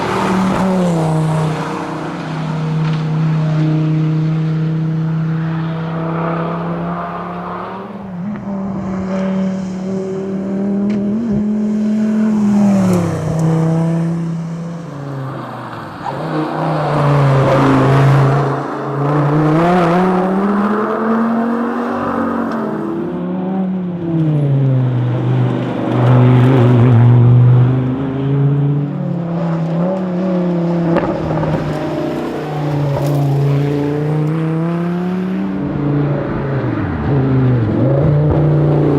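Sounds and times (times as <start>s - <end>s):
sports car engine accelerating: 0.0s - 38.9s.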